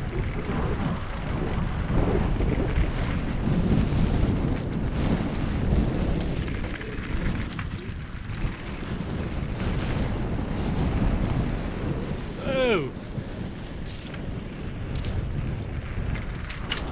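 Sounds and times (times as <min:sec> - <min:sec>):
bike tyres rolling on dirt: 0:00.0 - 0:16.9
wind buffeting microphone: 0:00.0 - 0:16.9.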